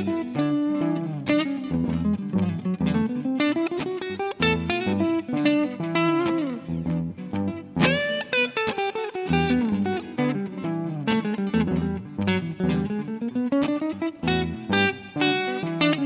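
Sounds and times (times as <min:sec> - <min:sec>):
backing track with bass: 0:00.0 - 0:08.5, 0:09.2 - 0:16.0
electric guitar single-note line: 0:00.0 - 0:16.0.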